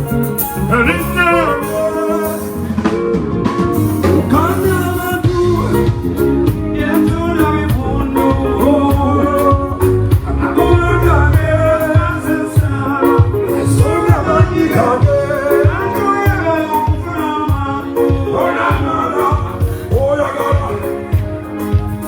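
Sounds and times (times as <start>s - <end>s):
person singing: 0.0s - 22.0s
steady bass line: 0.0s - 22.0s
drum beat: 2.8s - 22.0s.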